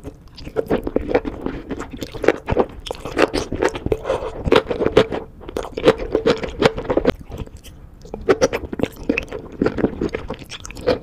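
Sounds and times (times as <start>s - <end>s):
crisp wet chewing crunches: 0.0s - 11.0s.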